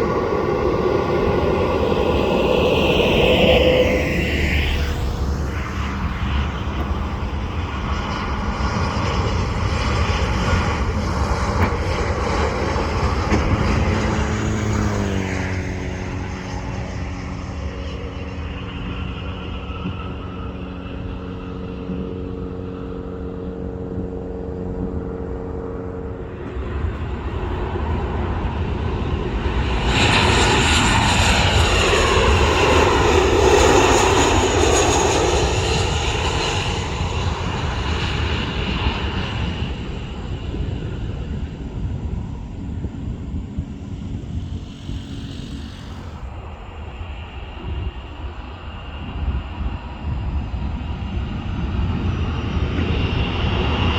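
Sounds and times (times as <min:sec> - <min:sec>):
jet aircraft passing overhead: 0:00.0 - 0:53.9.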